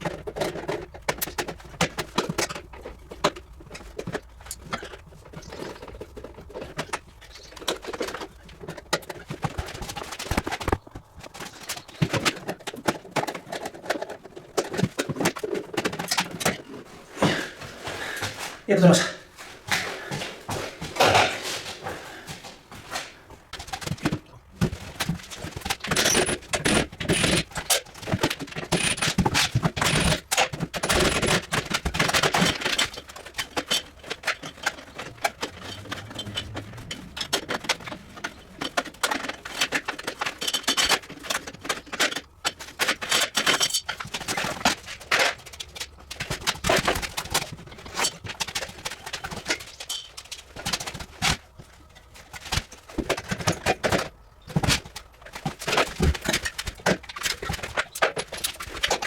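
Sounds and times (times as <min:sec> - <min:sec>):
knocking and scraping on metal parts: 0:00.0 - 0:18.6, 0:19.5 - 0:59.0.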